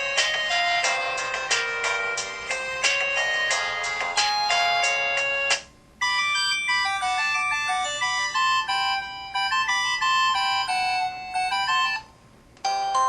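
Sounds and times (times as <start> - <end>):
mobile phone ringtone melody: 0.0 - 13.0.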